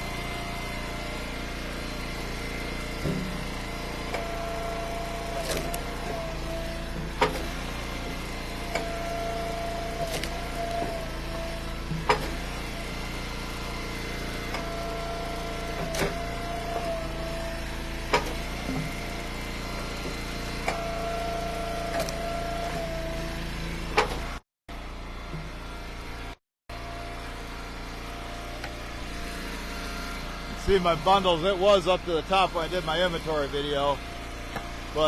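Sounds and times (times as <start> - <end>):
hydraulic wood splitter engine running: 0.0 - 35.0.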